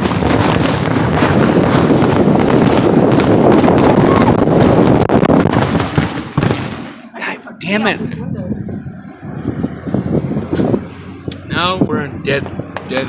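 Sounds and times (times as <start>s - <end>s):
fireworks crackling: 0.0s - 11.5s.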